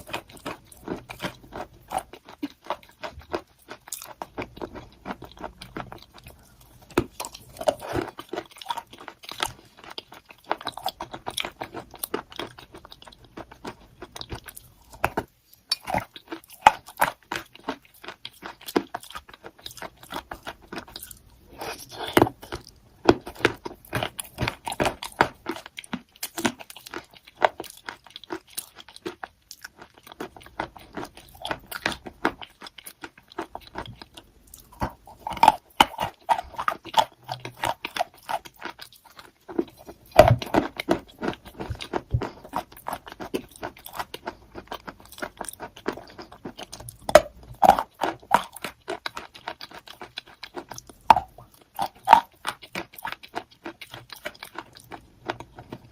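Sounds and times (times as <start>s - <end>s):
chalk being chewed: 0.0s - 55.9s.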